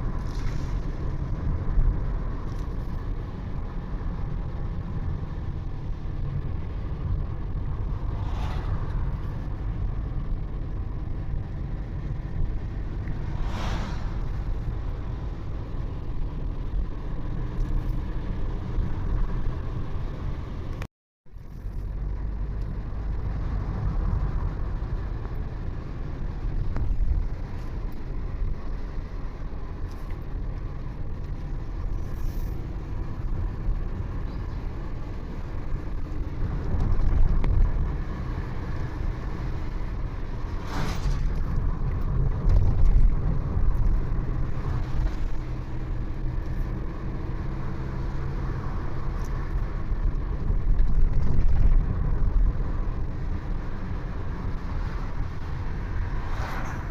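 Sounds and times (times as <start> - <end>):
road noise: 0.0 - 56.9
vehicle engine hum: 0.0 - 56.9.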